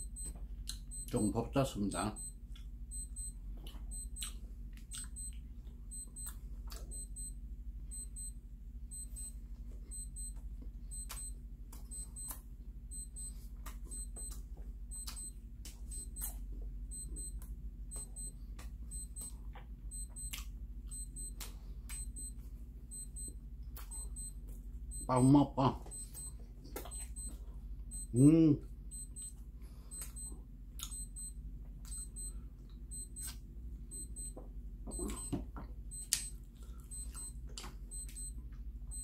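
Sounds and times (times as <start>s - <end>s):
man chewing with mouth clicks: 0.0s - 1.2s, 2.3s - 7.3s, 8.9s - 25.0s, 25.9s - 28.1s, 28.9s - 39.0s
low hum: 0.0s - 39.0s.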